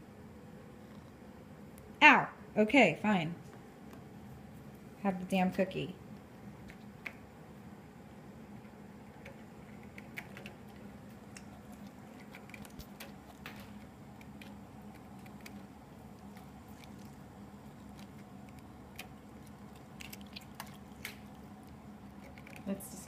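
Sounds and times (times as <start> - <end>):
steady low hum: 0.0 - 23.0
cat gnawing cookie: 0.4 - 2.0, 6.0 - 23.0.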